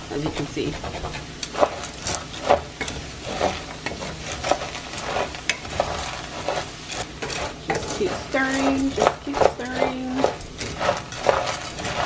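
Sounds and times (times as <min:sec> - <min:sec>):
water sizzling in a pan: 0:00.0 - 0:12.0
nuts rattling in a pan: 0:00.2 - 0:12.0.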